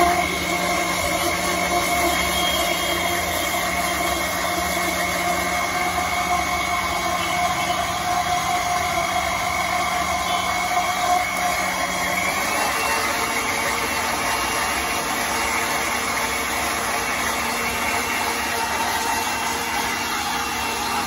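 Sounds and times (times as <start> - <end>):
mixer grinder motor running: 0.0 - 21.0.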